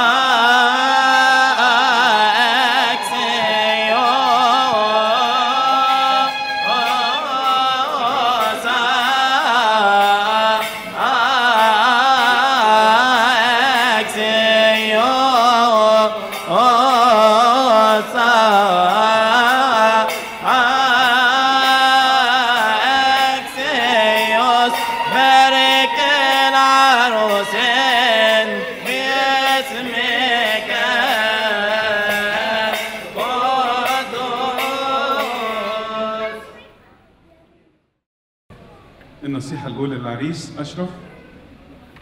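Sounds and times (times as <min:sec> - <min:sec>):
person chanting ornamented melody: 0:00.0 - 0:36.7.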